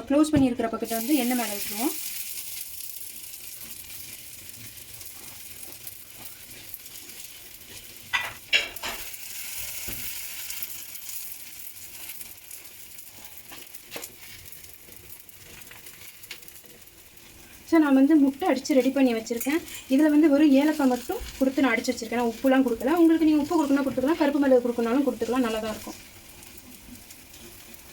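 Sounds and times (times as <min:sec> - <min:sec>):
food sizzling on a griddle: 0:00.8 - 0:27.9.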